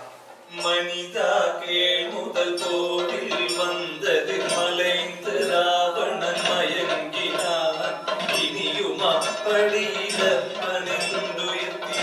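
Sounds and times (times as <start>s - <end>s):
chant-like singing: 0.5s - 12.0s.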